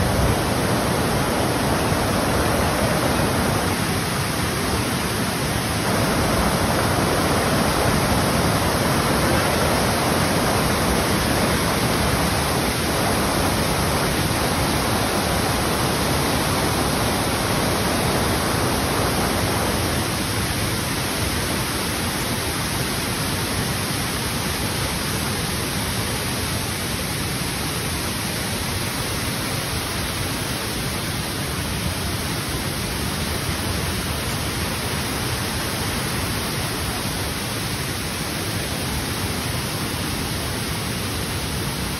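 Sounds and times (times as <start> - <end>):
waterfall cascading over rocks: 0.0 - 41.9.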